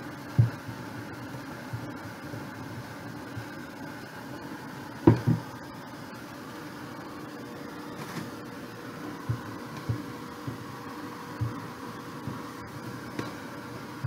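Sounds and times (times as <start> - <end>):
blow dryer whirring: 0.0 - 14.0.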